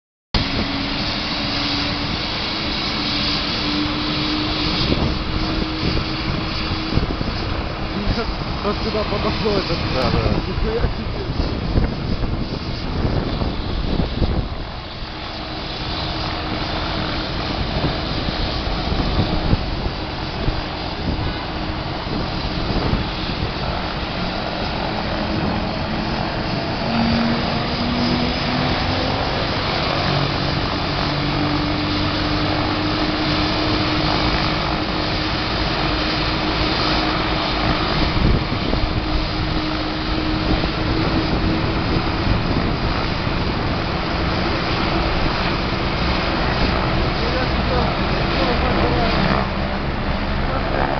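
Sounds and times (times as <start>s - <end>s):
helicopter engine and rotor drone: 0.4s - 50.9s.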